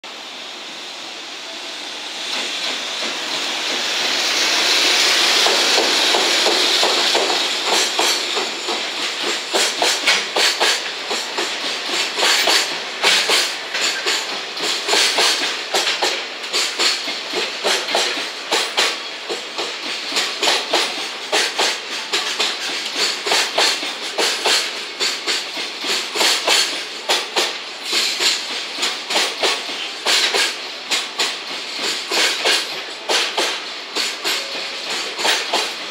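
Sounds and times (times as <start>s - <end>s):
wheels clacking over rail joints: 5.4s - 35.9s.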